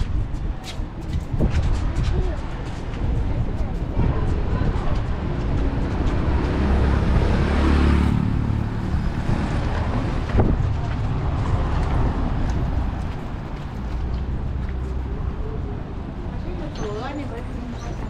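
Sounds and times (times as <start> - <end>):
street noise: 0.0 - 18.0
wind on microphone: 0.0 - 18.0
car passing rumble: 1.4 - 16.6.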